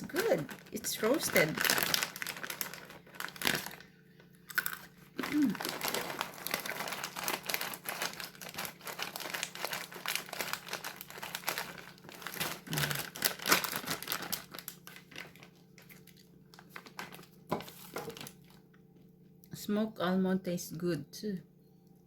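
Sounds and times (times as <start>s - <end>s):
packet crinkling: 0.0s - 3.9s, 4.5s - 18.8s.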